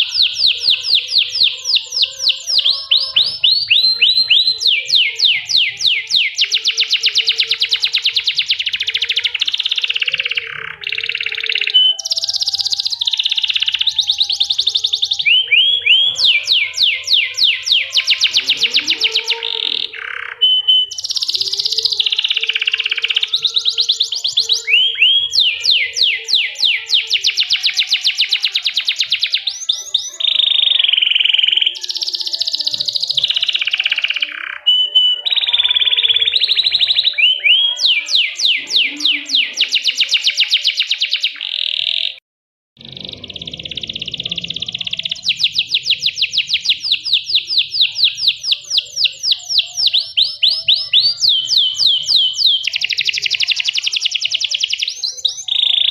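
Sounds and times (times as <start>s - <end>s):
canary singing trills: 0.0s - 42.2s, 42.8s - 55.9s.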